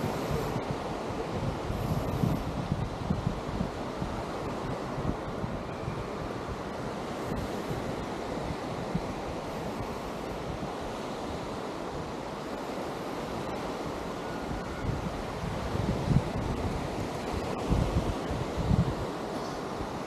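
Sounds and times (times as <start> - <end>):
wind buffeting microphone: 0.0 - 12.3, 13.4 - 20.0
surf washing onto beach: 0.0 - 20.0.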